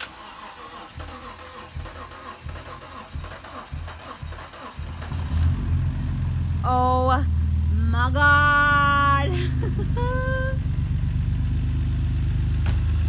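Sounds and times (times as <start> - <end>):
car engine cranking: 0.0 - 13.0
car engine running: 0.0 - 13.0.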